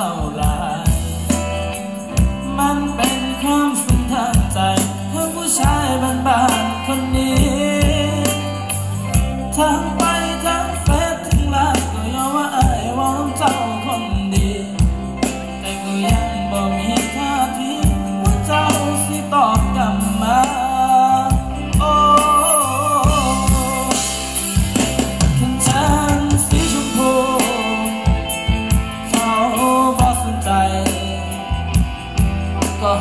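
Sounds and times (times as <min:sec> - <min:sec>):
percussion: 0:00.0 - 0:33.0
person singing: 0:00.0 - 0:33.0
steady bass line: 0:00.0 - 0:33.0.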